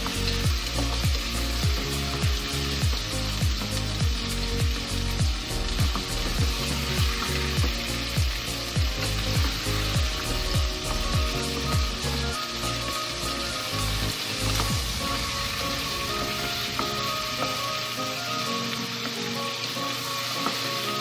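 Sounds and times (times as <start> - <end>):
background music with beat: 0.0 - 21.0
chicken sizzling in pan: 0.0 - 21.0.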